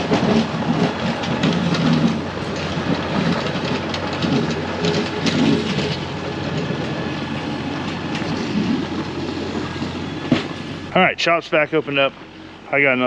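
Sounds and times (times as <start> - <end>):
heavy machine engine running: 0.0 - 13.0
plow rattling and clanking: 0.0 - 13.0.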